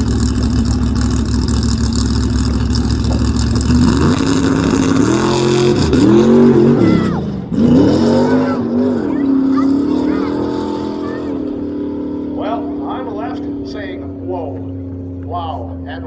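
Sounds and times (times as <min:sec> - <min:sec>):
drag car engine accelerating: 0:00.0 - 0:16.0.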